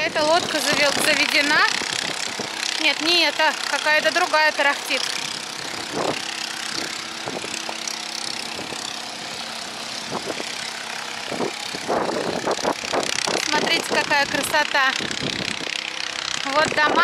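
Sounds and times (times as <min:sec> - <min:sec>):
engine chugging: 0:00.0 - 0:17.0.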